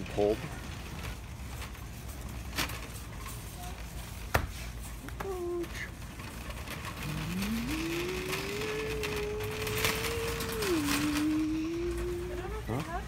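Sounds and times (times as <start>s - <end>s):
shopping cart rolling: 0.0s - 13.0s.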